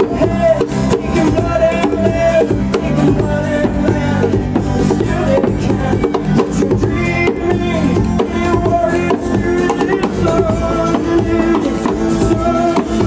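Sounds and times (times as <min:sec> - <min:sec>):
drums and hand percussion: 0:00.0 - 0:13.0
strummed acoustic guitars: 0:00.0 - 0:13.0.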